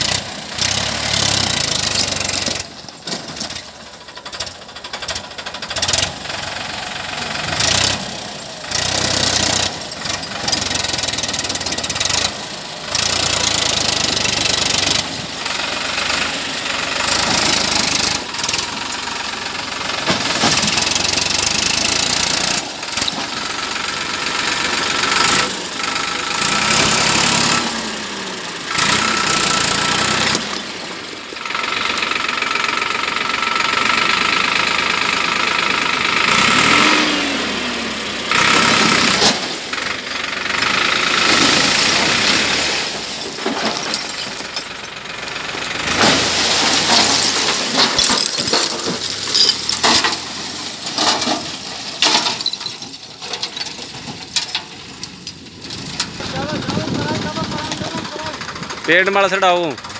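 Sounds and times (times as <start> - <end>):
tractor diesel engine revving: 0.0 - 59.9.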